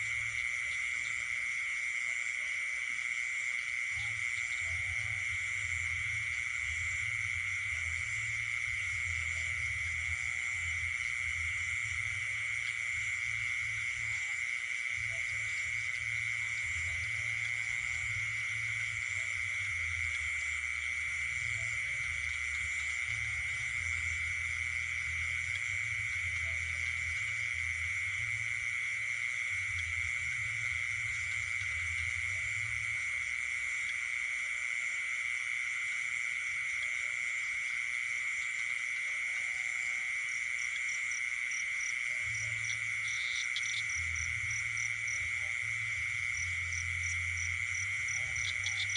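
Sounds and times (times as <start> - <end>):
frogs calling: 0.0 - 48.9
high-pitched insect trill: 0.0 - 48.9.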